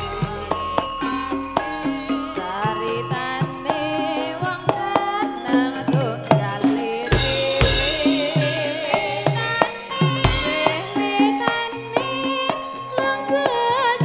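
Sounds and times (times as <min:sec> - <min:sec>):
hand drums falling in pitch: 0:00.0 - 0:14.0
metallophones ringing: 0:00.0 - 0:14.0
wavering melody line: 0:00.0 - 0:14.0.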